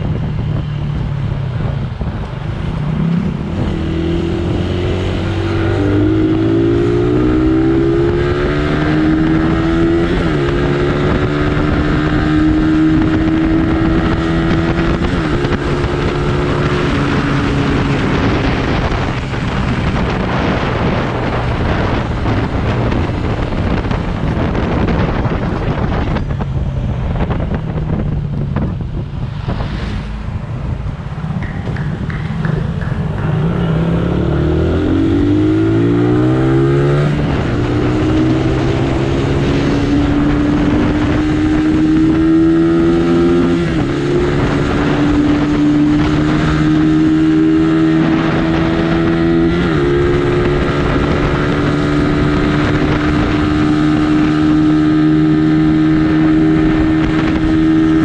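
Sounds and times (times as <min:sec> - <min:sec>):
motorcycle engine accelerating: 0:00.0 - 0:58.0
wind and road rush: 0:00.0 - 0:58.0.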